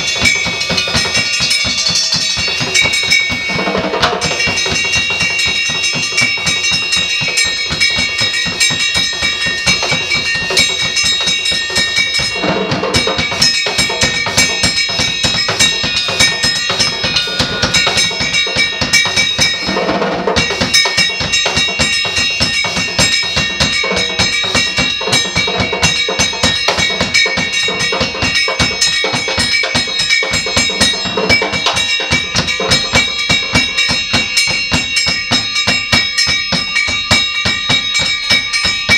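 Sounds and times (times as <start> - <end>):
fast percussion drumming: 0.0 - 38.9
high metallic ringing tones: 0.0 - 38.9.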